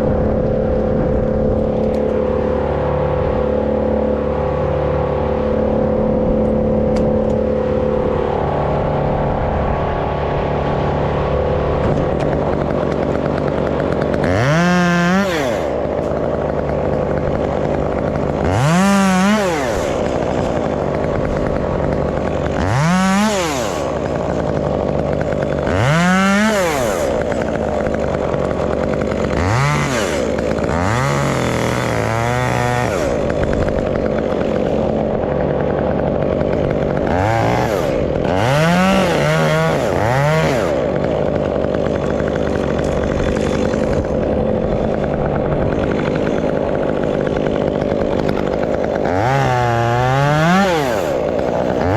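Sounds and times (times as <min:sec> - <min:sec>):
chainsaw idling and revving: 0:00.0 - 0:51.9.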